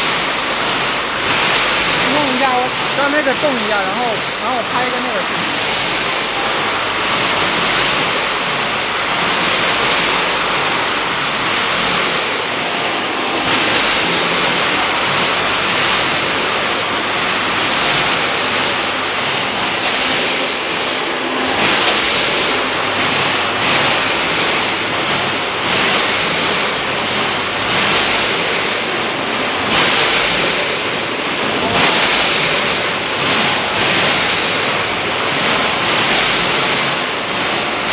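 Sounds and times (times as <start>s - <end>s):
packing line rushing noise: 0.0s - 37.9s.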